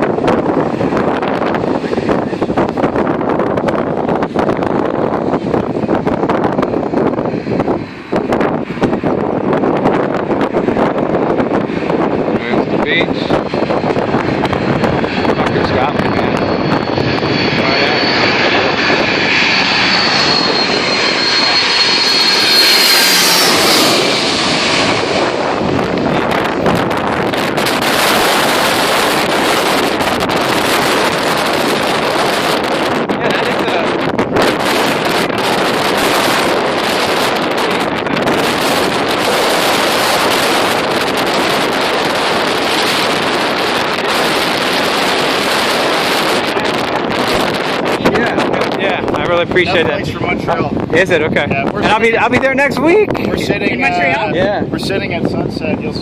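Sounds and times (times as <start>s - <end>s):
jet airliner passing overhead: 0.0s - 56.0s
wind buffeting microphone: 0.0s - 56.0s.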